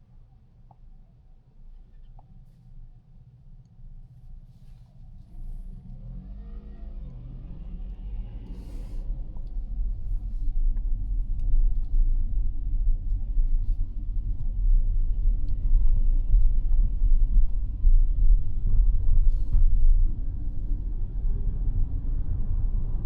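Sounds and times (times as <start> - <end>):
car road and tyre rumble: 4.2 - 23.0.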